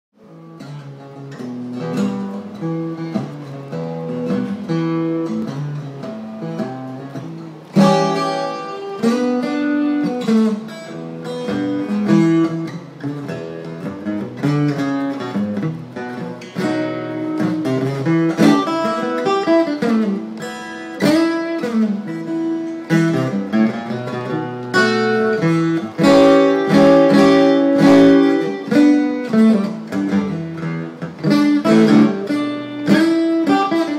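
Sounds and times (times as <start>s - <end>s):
acoustic guitar playing blues: 0.2s - 33.9s.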